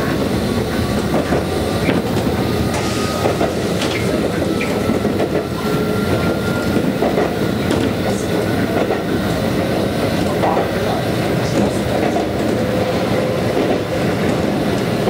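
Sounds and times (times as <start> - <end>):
train wheels rumbling on rail: 0.0 - 15.0
rail-joint clicks: 0.1 - 15.0.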